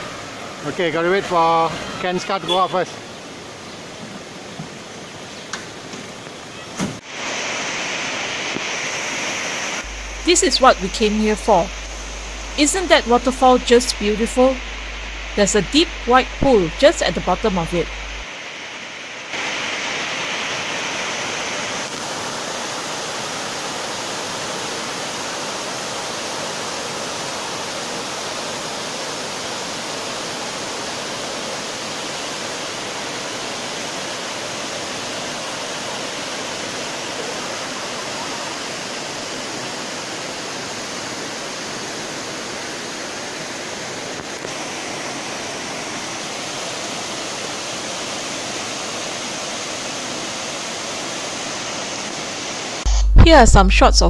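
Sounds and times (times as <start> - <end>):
stream tumbling over boulders: 0.0 - 10.6, 17.7 - 52.8
waterfall rushing: 0.0 - 52.9.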